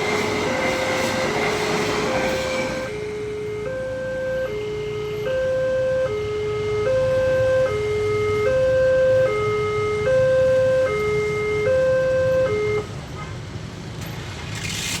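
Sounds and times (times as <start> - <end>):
two-tone electronic warning siren: 0.0 - 12.9.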